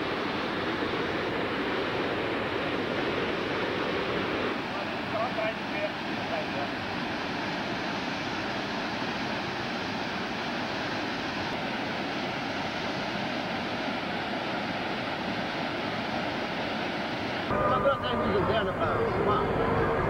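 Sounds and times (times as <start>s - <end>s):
waterfall rushing: 0.0s - 17.7s.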